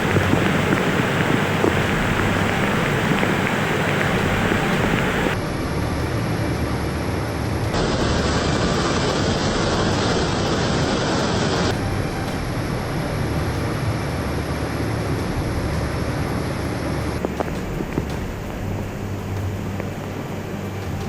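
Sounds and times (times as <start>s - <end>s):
loud steady rushing roar: 0.0s - 21.0s.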